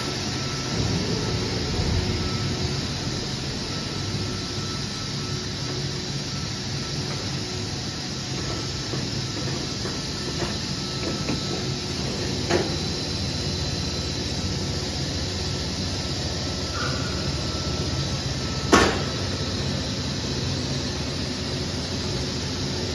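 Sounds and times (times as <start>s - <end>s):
machinery hum with high whine: 0.0s - 22.9s.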